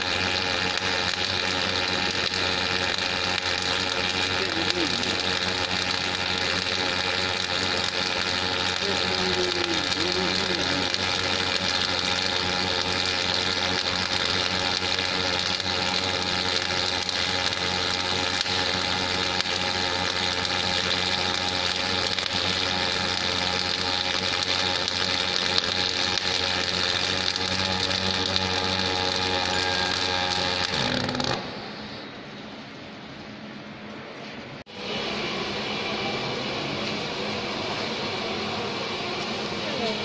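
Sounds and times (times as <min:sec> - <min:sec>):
welding arc hissing: 0:00.0 - 0:32.1
machine hum: 0:00.0 - 0:40.0.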